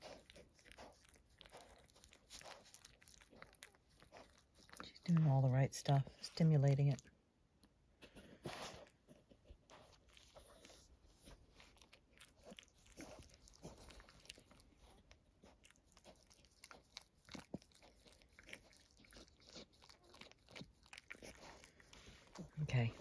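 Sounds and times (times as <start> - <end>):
dog licking puppy: 0.0 - 7.1, 8.4 - 23.0.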